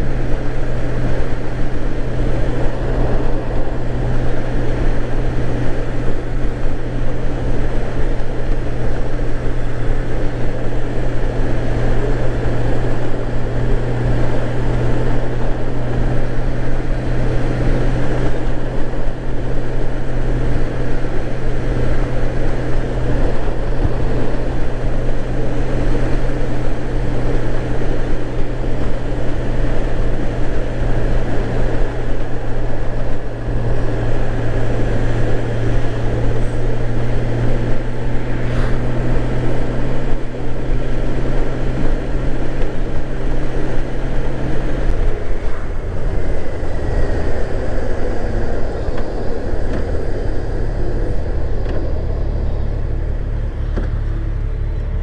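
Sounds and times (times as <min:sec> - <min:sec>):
motorcycle engine drone: 0:00.0 - 0:55.0
road noise: 0:00.0 - 0:55.0
rushing wind: 0:00.0 - 0:55.0.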